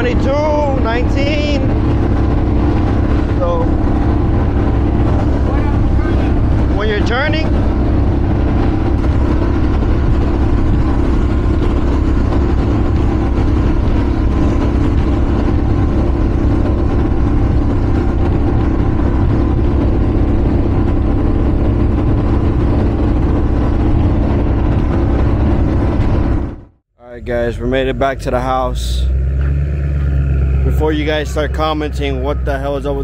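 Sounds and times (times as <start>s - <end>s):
boat engines droning: 0.0s - 33.0s.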